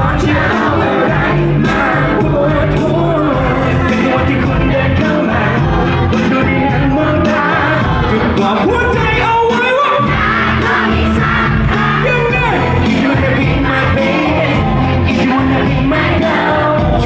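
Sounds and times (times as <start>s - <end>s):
person singing: 0.0s - 10.0s, 10.6s - 17.0s
live band music: 0.0s - 17.0s.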